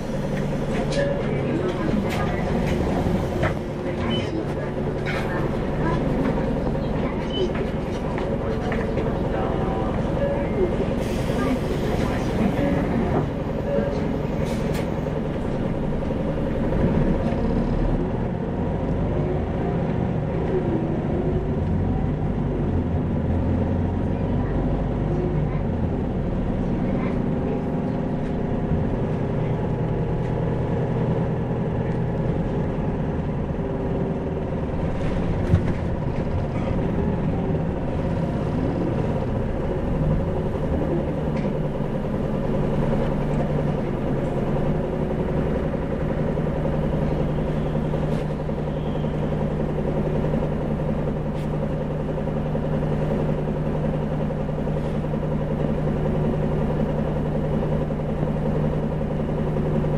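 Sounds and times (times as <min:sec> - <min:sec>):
diesel bus engine droning: 0:00.0 - 0:59.9.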